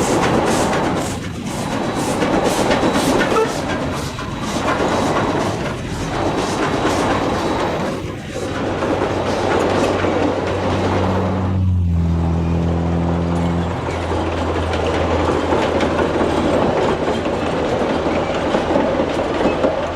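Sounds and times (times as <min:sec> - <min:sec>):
steam locomotive exhaust beats: 0:00.0 - 0:19.9
train rumbling on rails: 0:00.0 - 0:19.9.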